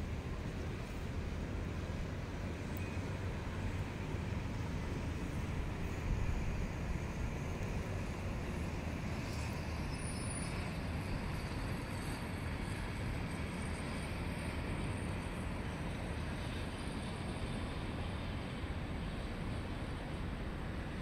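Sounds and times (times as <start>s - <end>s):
low rumble of city traffic: 0.0s - 21.0s.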